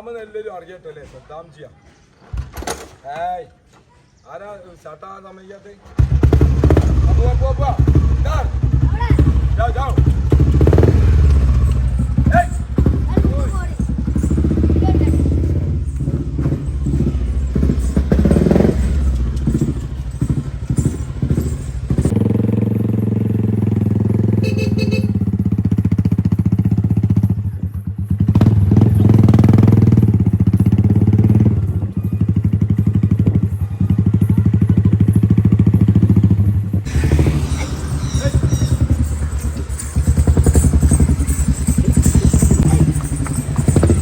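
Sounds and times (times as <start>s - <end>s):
motorcycle engine running: 6.0s - 44.0s.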